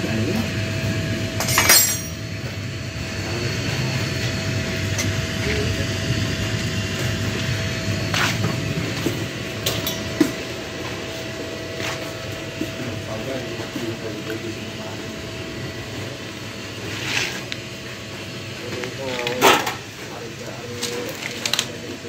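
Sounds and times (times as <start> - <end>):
machine motor humming and whining: 0.0 - 22.0.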